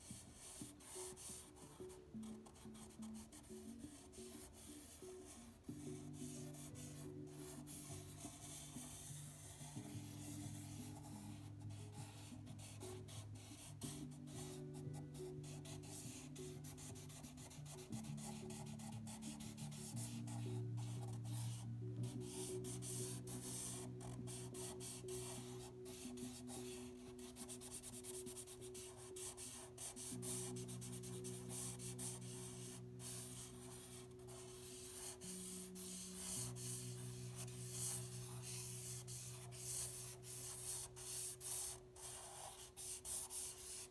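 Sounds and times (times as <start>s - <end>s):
marker rubbing across paper: 0.0s - 43.9s
soft background music chords: 0.0s - 43.9s.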